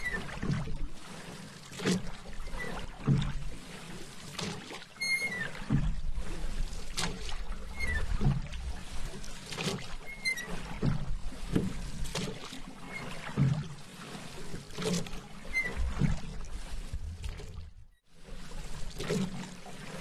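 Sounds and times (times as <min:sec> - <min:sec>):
paddle swishing through water: 0:00.0 - 0:20.0.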